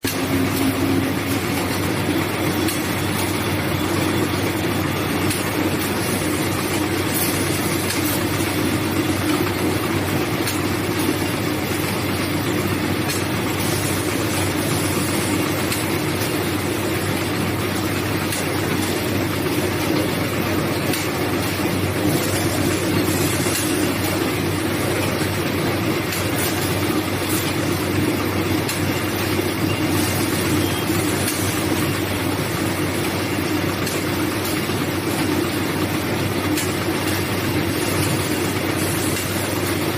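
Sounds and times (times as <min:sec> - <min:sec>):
packing machine whirring: 0:00.0 - 0:39.9.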